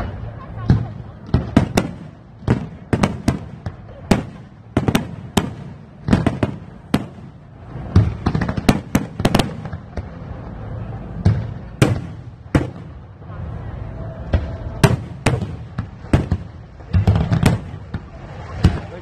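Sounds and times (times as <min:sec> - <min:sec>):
fireworks bangs: 0:00.0 - 0:13.4, 0:14.2 - 0:19.0.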